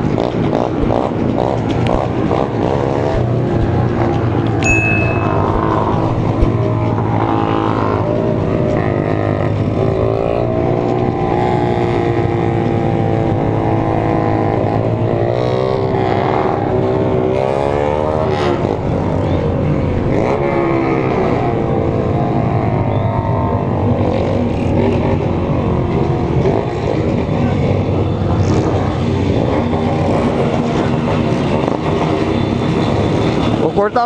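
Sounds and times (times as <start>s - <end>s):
motorcycle engines droning and revving: 0.0s - 34.0s.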